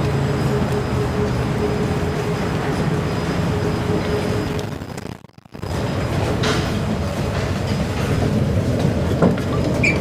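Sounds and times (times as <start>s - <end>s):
train hum and rumble: 0.0s - 10.0s.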